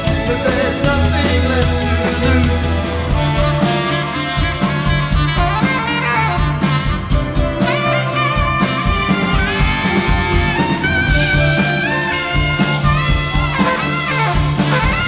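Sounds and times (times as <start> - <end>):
bass: 0.0 - 15.0
drums: 0.0 - 15.0
wavering melodic lead line: 0.0 - 15.0.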